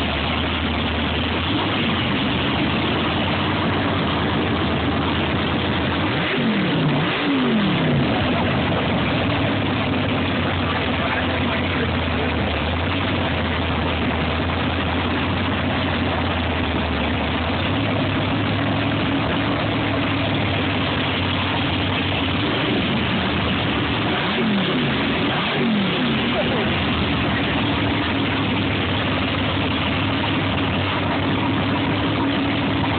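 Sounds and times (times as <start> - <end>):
engine running: 0.0 - 32.9.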